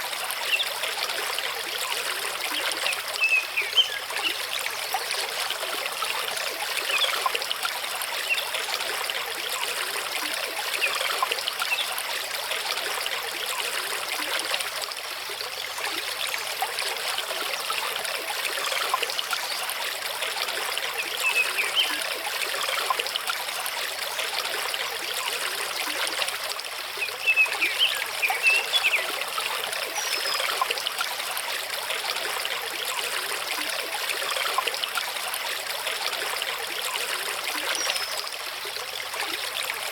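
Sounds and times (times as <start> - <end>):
stream flowing over rocks: 0.0 - 39.9
water splashes and trickles: 0.0 - 39.9.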